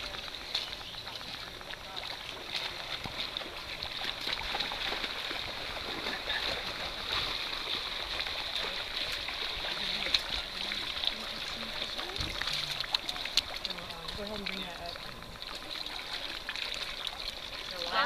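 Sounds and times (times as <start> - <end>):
splashes from wading: 0.0 - 18.0
stream water running over rock: 0.0 - 18.0.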